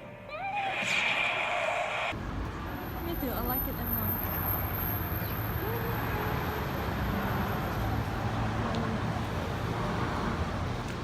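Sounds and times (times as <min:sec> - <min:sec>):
rumbling road traffic: 0:00.6 - 0:11.0.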